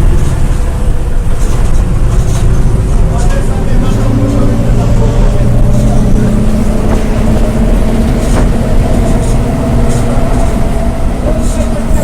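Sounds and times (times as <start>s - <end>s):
bus wheel bearing whine: 0.0s - 12.0s
road rumble: 0.0s - 12.0s.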